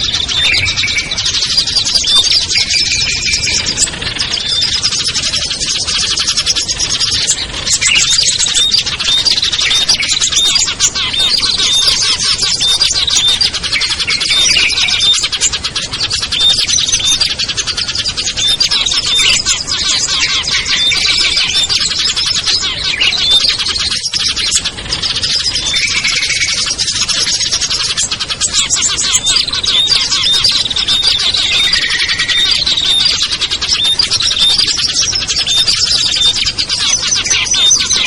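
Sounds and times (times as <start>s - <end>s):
songbirds chirping and trilling: 0.0s - 38.0s.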